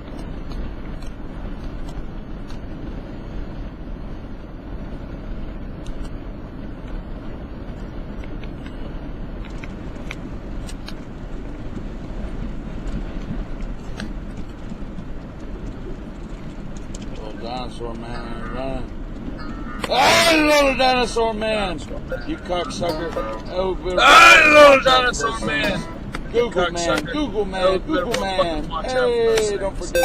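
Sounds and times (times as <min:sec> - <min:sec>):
road and engine noise inside car: 0:00.0 - 0:30.0.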